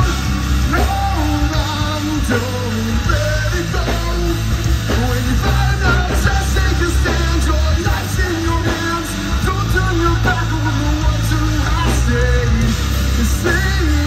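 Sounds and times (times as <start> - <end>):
bass guitar: 0.0 - 14.0
drums playing a steady beat: 0.0 - 14.0
electric guitars: 0.0 - 14.0.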